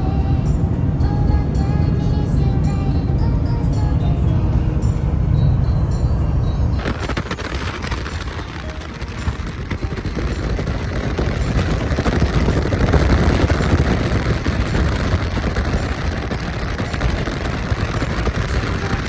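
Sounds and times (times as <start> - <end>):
road and wind noise of car: 0.0 - 19.0.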